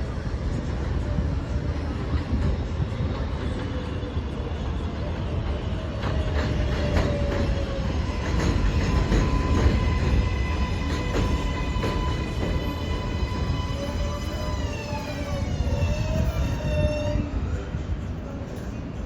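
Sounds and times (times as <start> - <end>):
subway train rumble: 0.0 - 19.0.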